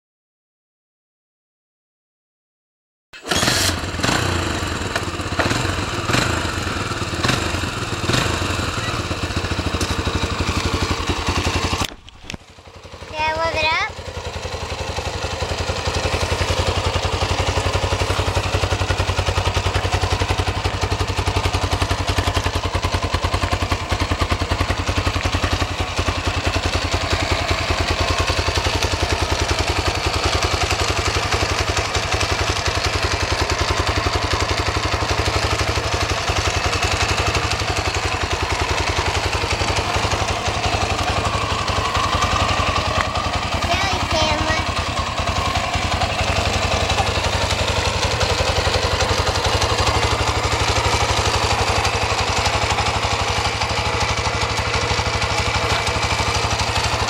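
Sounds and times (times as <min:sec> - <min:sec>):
quad engine idling: 0:03.2 - 0:57.0.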